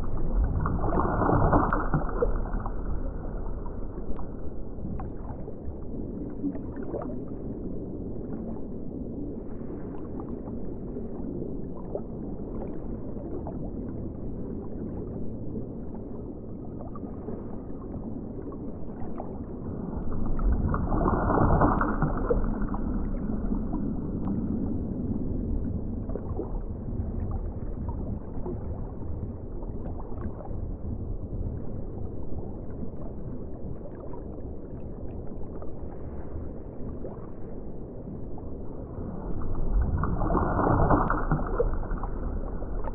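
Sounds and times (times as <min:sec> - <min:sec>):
rushing water swell: 0:00.0 - 0:42.9
underwater rumble and gurgle: 0:00.0 - 0:42.9.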